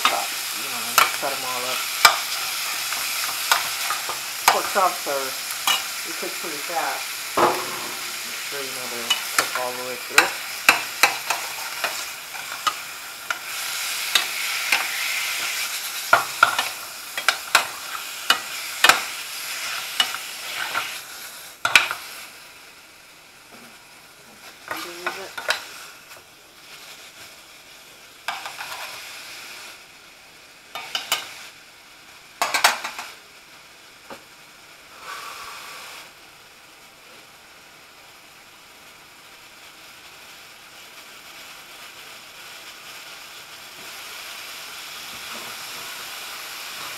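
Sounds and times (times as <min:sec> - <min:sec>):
meat sizzling in a pan: 0:00.0 - 0:46.9.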